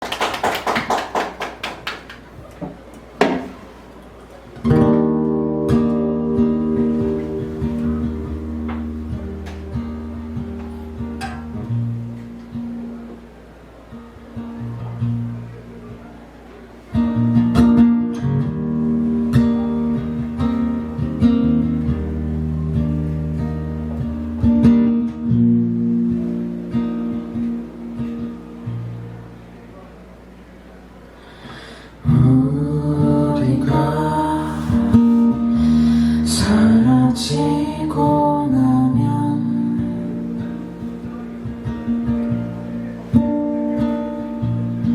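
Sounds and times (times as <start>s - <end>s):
acoustic guitar chord strummed: 4.6s - 30.3s, 31.3s - 44.9s.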